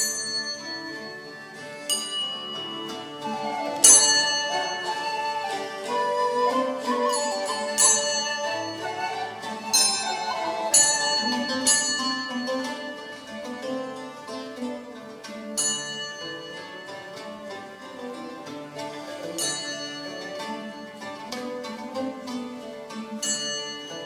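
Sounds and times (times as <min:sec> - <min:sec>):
bells ringing: 0:00.0 - 0:24.0
bowed fiddle: 0:00.0 - 0:24.0
plucked lutes: 0:00.0 - 0:24.0.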